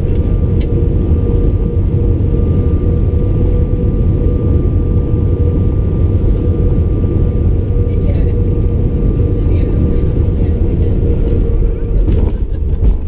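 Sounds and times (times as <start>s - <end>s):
engine whine: 0.0s - 13.0s
jet engine rumble: 0.0s - 13.0s.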